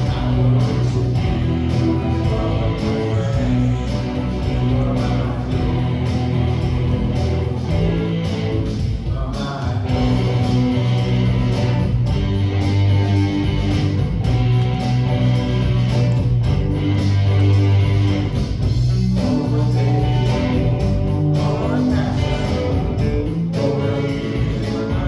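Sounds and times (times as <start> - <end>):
band playing: 0.0 - 25.0
steady bass line: 0.0 - 25.0
strummed guitar: 0.0 - 25.0.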